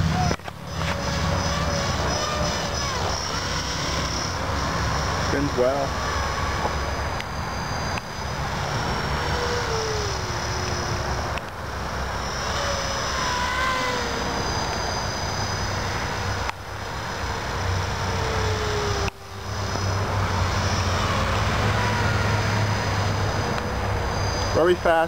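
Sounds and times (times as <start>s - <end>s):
rc helicopter motor whining: 0.0s - 25.0s.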